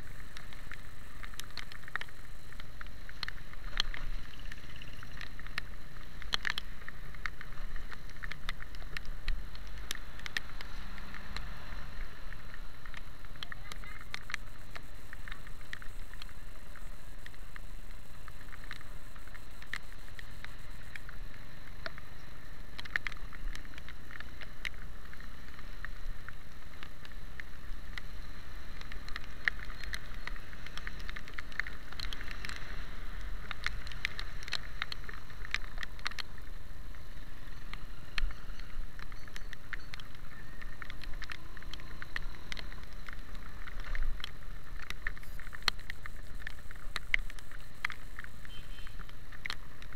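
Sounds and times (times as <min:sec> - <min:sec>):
low rumble of riding: 0:00.0 - 0:49.9
raindrops ticking on camera: 0:00.0 - 0:49.9.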